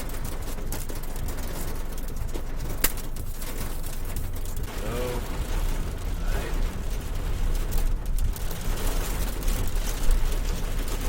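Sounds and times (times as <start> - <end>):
wind buffeting microphone: 0.2 - 11.0.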